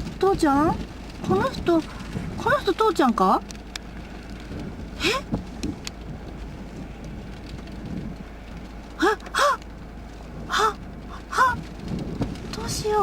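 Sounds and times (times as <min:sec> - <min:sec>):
steady rain: 0:00.0 - 0:13.0
wind: 0:00.0 - 0:13.0.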